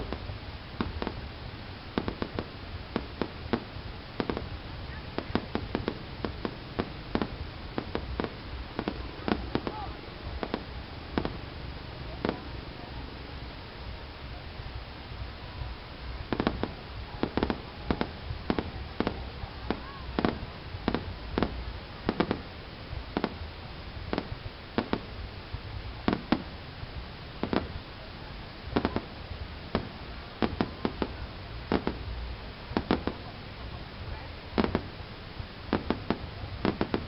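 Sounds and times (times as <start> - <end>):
fireworks bangs: 0.0 - 12.8, 16.2 - 37.0.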